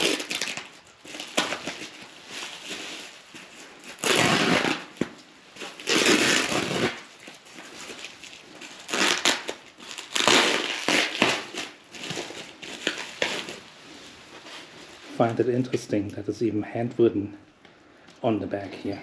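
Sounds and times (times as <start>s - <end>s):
bubble wrap crinkling: 0.0s - 15.4s.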